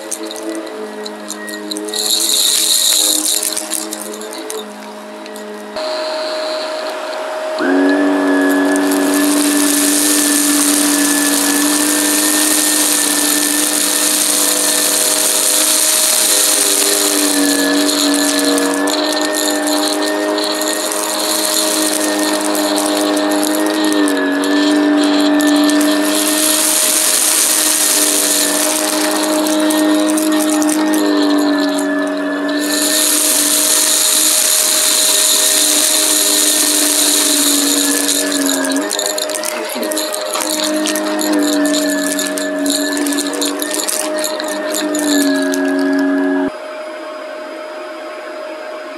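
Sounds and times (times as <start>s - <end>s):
airy suction hiss: 0.0s - 4.6s, 5.8s - 46.2s
vacuum cleaner motor hum: 0.0s - 46.5s.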